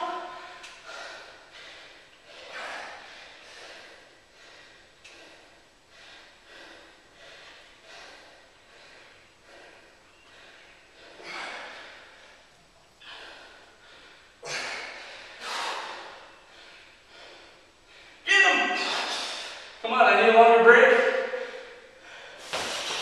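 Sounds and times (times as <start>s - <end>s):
man breathing hard: 0.0s - 19.8s, 21.0s - 23.0s.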